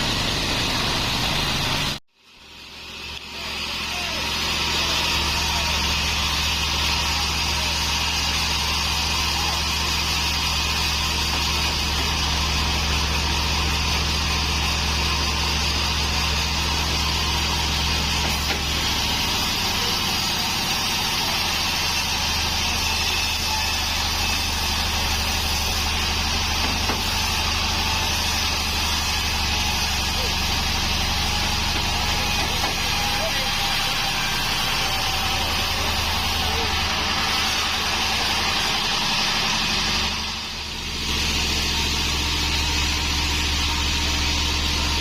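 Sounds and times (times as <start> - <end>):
band saw cutting log: 0.0 - 45.0.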